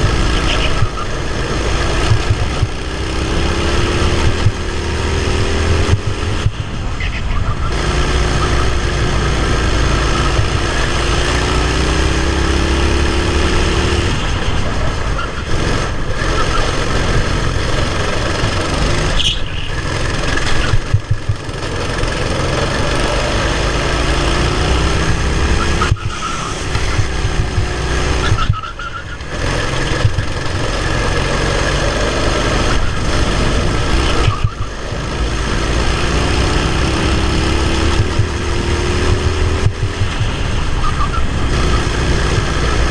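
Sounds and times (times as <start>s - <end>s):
kart engine running hard: 0.0s - 42.9s.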